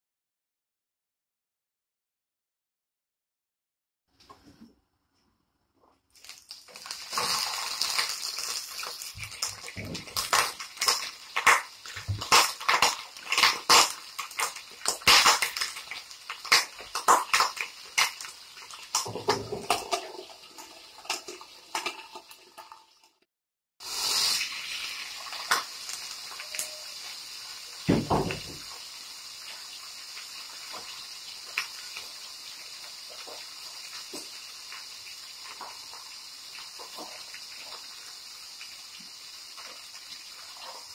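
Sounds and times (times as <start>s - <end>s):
chicken sizzling in oil: 6.1s - 23.2s, 23.8s - 40.9s
hot oil spitting and crackling: 6.1s - 23.2s, 23.8s - 40.9s.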